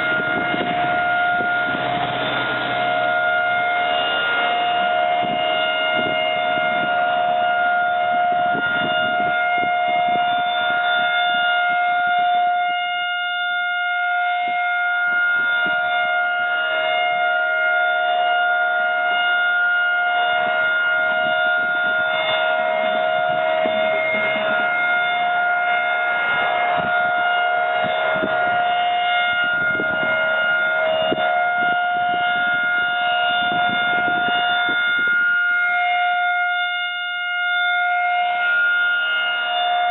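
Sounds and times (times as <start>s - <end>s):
siren steady tone: 0.0s - 39.9s.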